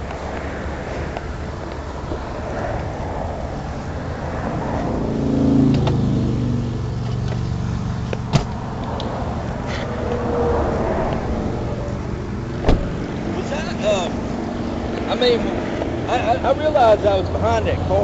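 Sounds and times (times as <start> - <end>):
highway traffic rushing past: 0.0 - 18.0
vehicle engine hum passing: 0.0 - 18.0.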